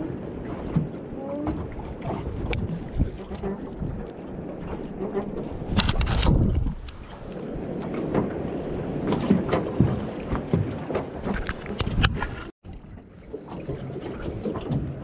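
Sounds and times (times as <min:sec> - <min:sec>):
wind on microphone: 0:00.0 - 0:12.5
water lapping against hull: 0:00.0 - 0:15.0.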